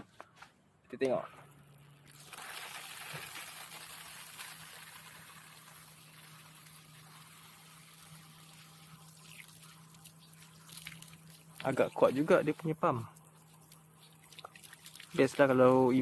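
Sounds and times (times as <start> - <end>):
pump humming: 1.4 - 16.0
shower water spraying onto grass: 1.6 - 16.0.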